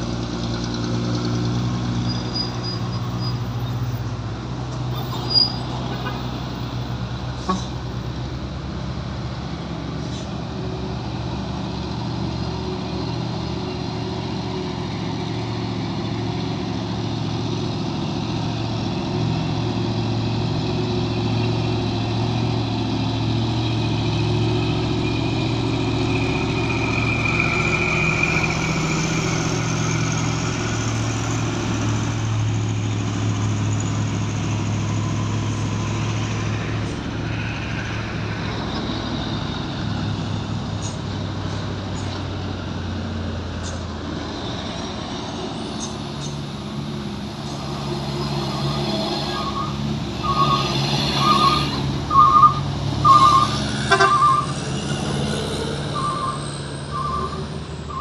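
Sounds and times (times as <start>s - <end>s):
diesel trucks driving uphill: 0.0s - 58.0s.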